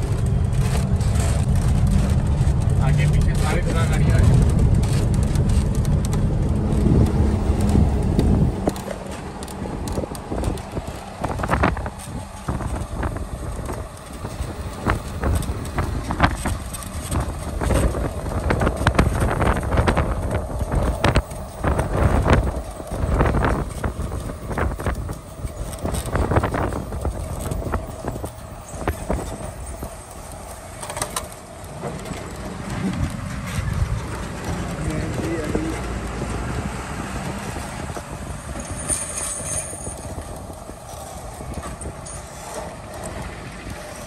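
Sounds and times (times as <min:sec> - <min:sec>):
heavy truck engine and road rumble: 0:00.0 - 0:44.0.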